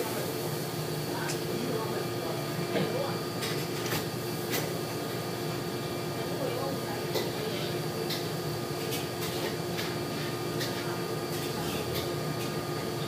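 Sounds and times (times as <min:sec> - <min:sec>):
mechanical room hum: 0:00.0 - 0:13.0.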